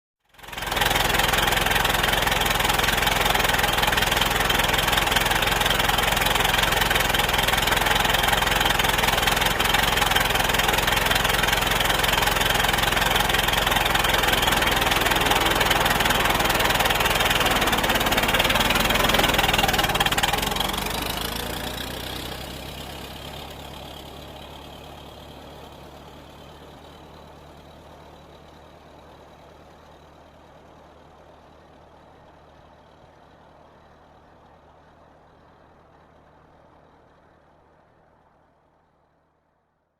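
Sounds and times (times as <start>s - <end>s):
old car engine running: 0.2s - 38.7s.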